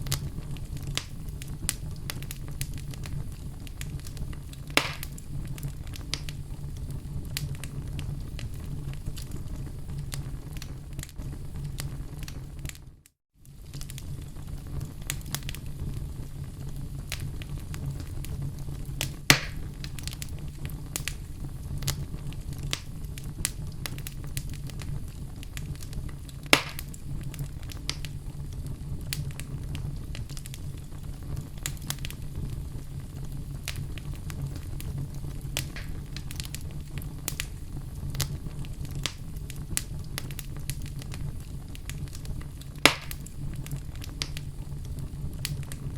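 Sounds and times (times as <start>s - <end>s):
loud fire pops: 0.0s - 45.9s
wood fire crackling: 0.0s - 45.9s.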